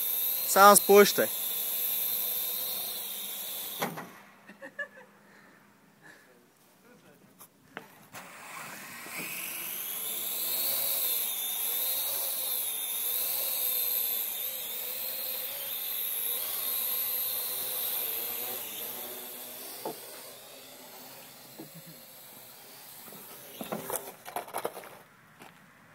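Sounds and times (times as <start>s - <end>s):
drone rotors whining: 0.0s - 5.0s, 8.0s - 25.0s.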